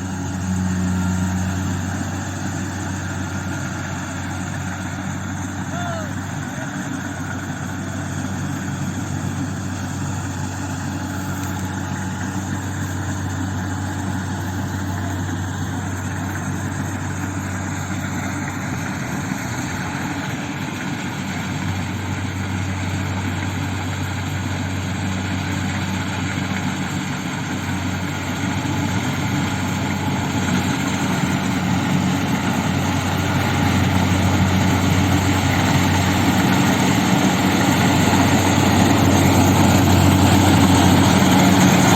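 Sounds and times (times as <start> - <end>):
combine harvester diesel engine: 0.0 - 41.9.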